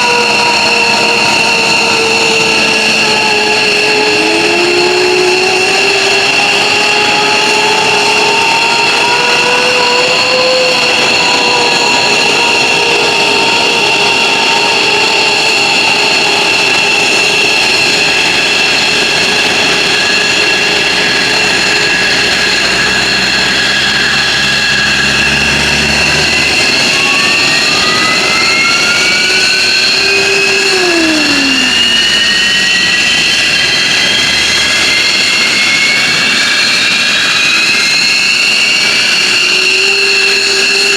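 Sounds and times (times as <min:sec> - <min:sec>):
engine spooling up whine: 0:00.0 - 0:40.9
jet engines high-pitched whine: 0:00.0 - 0:40.9
lower engine tone: 0:00.0 - 0:40.9.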